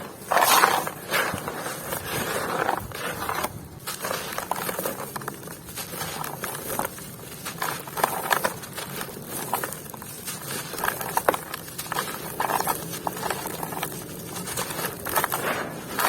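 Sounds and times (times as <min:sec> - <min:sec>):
dry material crunching by hand: 0:00.0 - 0:16.0.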